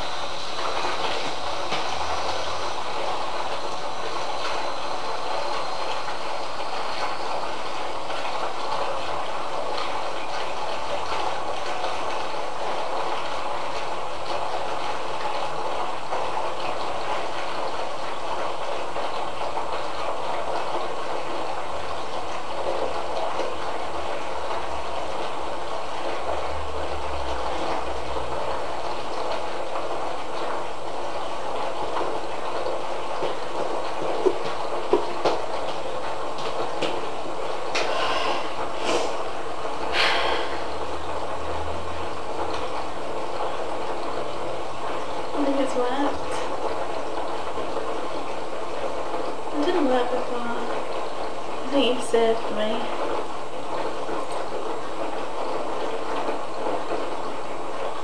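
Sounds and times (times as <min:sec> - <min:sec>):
water pouring into bathtub: 0:00.0 - 0:58.0.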